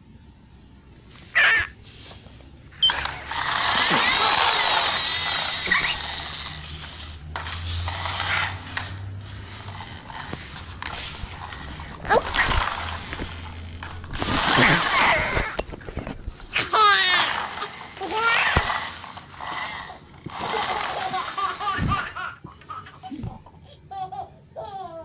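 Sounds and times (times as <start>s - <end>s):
toy wheels rolling on tiles: 2.8s - 22.9s.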